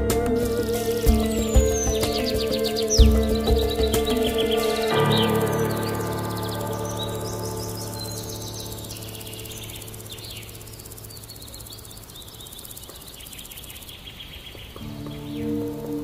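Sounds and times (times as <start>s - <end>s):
ambient music held tones: 0.0s - 16.0s
steady hiss: 0.0s - 16.0s.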